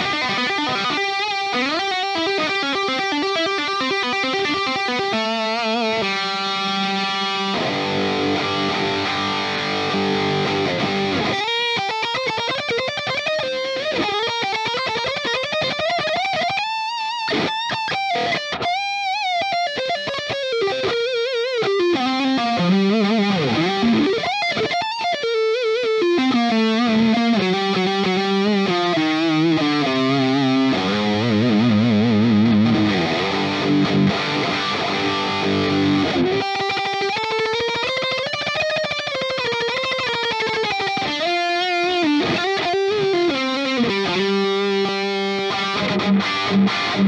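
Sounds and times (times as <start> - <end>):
electric guitar: 0.0 - 47.0.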